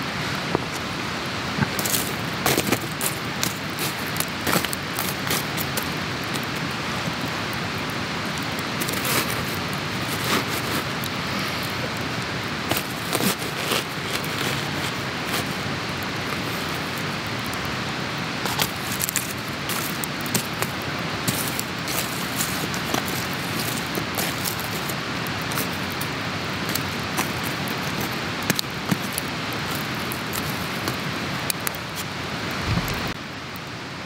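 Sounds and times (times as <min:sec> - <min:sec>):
campfire crackling: 0:00.0 - 0:34.0
fire pops and snaps: 0:01.5 - 0:33.6.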